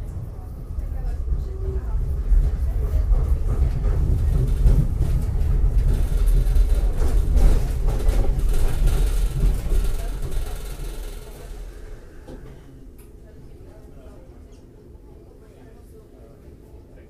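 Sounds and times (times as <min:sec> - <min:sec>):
tram rumbling on rails: 0:00.0 - 0:15.2.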